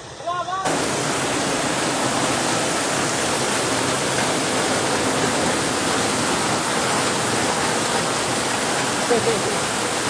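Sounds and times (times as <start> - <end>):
floodwater rushing: 0.6 - 10.0
heavy rain: 0.6 - 10.0.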